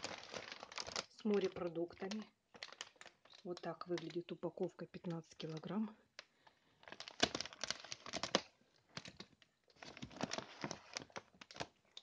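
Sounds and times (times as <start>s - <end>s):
plastic sack crinkling: 0.0s - 12.0s.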